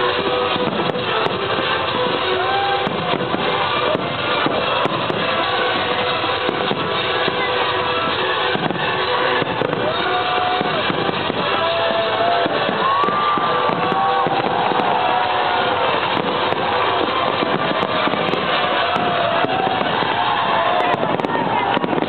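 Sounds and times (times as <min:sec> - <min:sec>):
music with held tones: 0:00.0 - 0:21.6
fireworks crackling and popping: 0:00.0 - 0:22.0.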